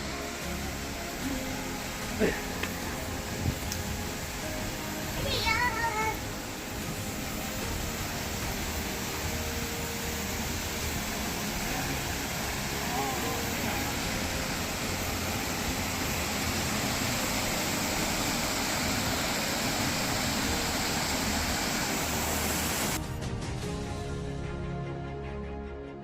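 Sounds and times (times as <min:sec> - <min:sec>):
steady rushing noise: 0:00.0 - 0:24.1
music: 0:00.0 - 0:26.0.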